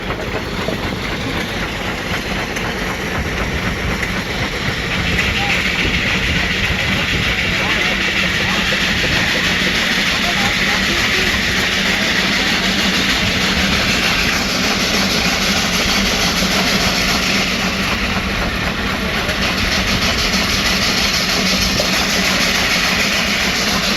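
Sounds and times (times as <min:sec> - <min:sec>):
steam engine running: 0:00.0 - 0:23.9.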